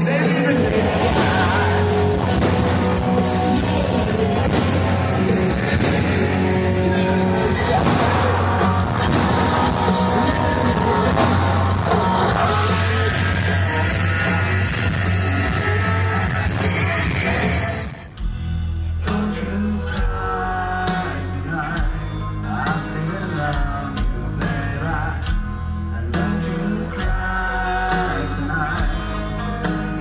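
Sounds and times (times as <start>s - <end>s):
rock music with singer and guitar: 0.0s - 30.0s.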